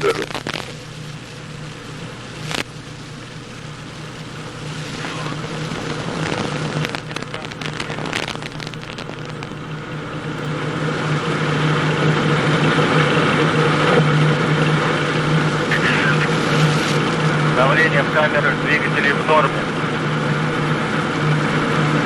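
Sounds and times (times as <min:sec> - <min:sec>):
rocket engines roaring: 0:00.0 - 0:22.0
steady low hum: 0:00.0 - 0:22.0.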